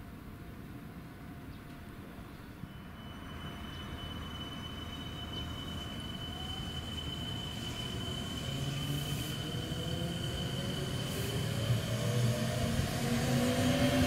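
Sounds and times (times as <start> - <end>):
thin high whine: 2.5 - 14.0
approaching train rumble: 2.7 - 14.0.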